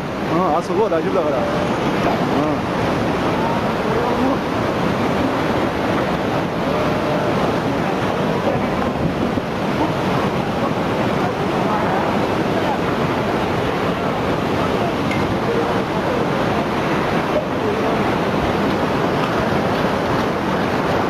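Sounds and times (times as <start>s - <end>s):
floodwater rushing: 0.0s - 21.0s
wind on microphone: 1.4s - 21.0s.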